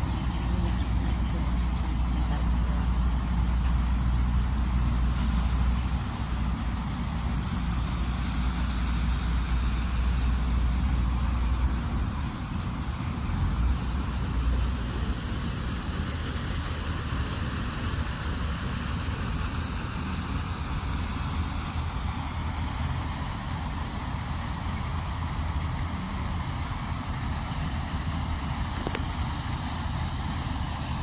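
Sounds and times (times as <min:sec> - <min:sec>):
even hiss: 0:00.0 - 0:31.0
low outdoor rumble: 0:00.0 - 0:31.0.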